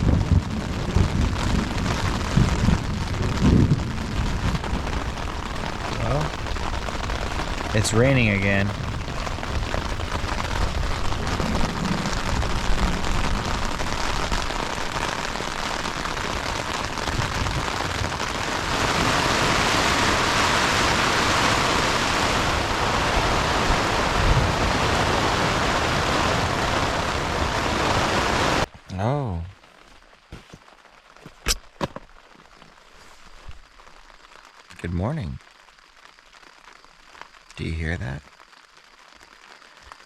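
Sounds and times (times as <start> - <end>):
rain pattering on a tent: 0.0 - 40.0.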